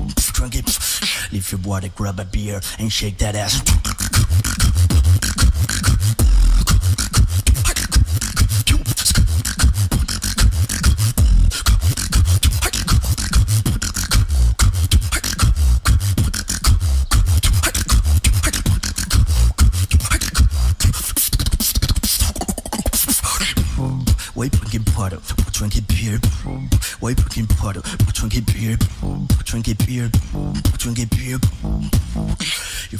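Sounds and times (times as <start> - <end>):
beatboxing into a microphone: 0.0 - 32.9.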